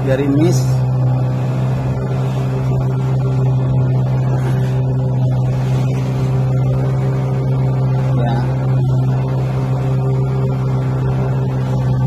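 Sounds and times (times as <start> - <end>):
boat engine droning: 0.0 - 12.0
water wash: 0.0 - 12.0.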